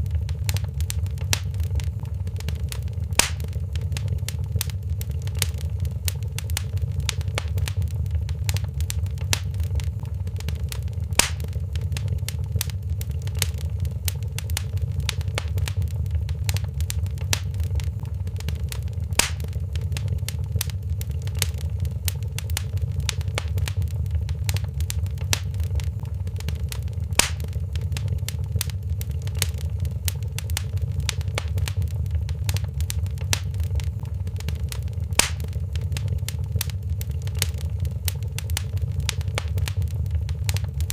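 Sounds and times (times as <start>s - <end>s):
loud fire pops: 0.0s - 40.9s
wood fire crackling: 0.0s - 40.9s.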